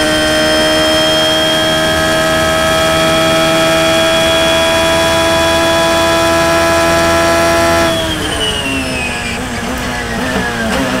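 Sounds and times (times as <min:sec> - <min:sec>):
car engine falling in pitch: 0:00.0 - 0:11.0
engine throttle blips: 0:00.0 - 0:11.0.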